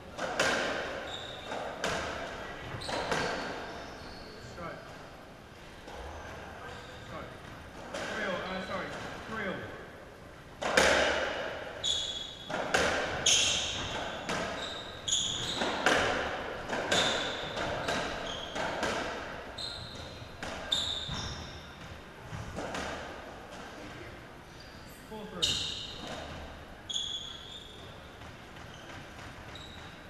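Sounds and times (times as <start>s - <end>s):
shoes squeaking on court floor: 0.2s - 9.6s, 11.8s - 30.0s.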